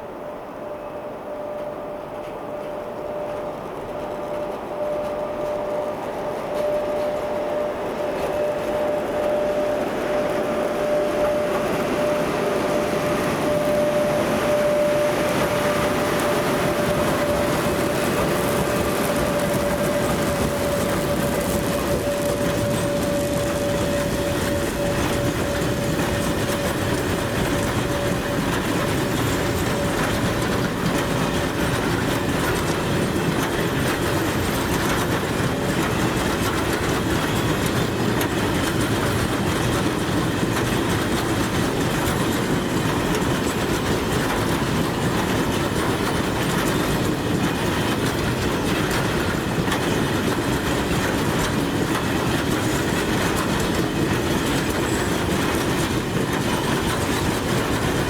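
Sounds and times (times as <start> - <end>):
train rumbling on rails: 0.0 - 58.0
wheels clattering over rail joints: 1.6 - 58.0.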